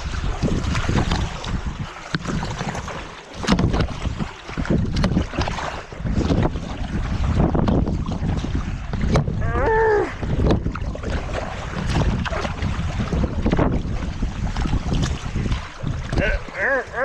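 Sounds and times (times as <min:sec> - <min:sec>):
kayak paddles splashing: 0:00.0 - 0:17.0
wind buffeting microphone: 0:00.0 - 0:17.0.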